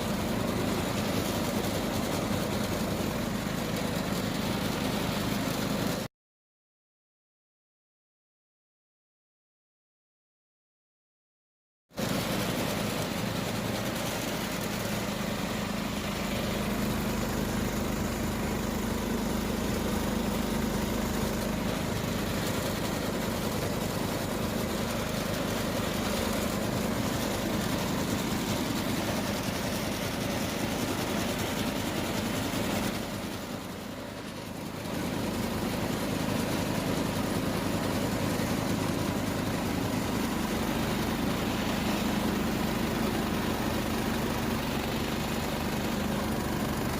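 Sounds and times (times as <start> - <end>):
garden tractor engine running: 0.0 - 6.1, 12.0 - 46.9.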